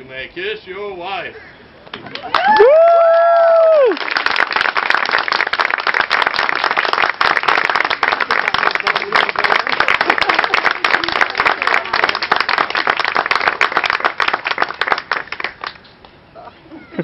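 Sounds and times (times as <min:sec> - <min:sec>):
crowd applauding: 0:01.9 - 0:15.8.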